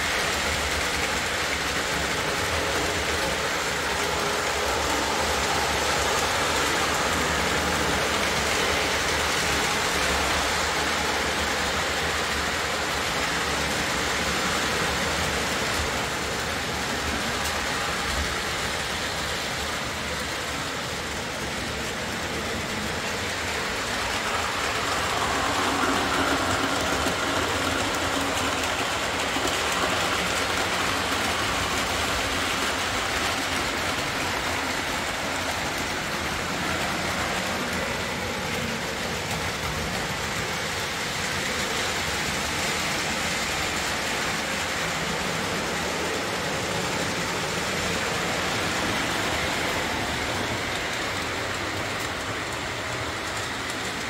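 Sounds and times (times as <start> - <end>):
wheels rumbling on track: 0.0 - 54.0.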